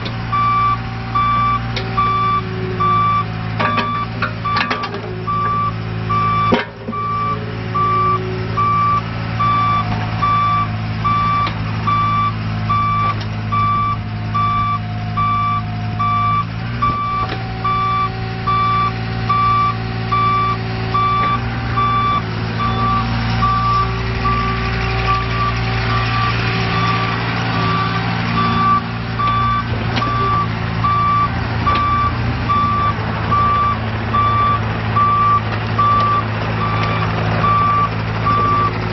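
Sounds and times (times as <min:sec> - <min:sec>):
diesel engine running: 0:00.0 - 0:38.9
travel alarm beeps: 0:00.3 - 0:25.6, 0:27.6 - 0:38.7.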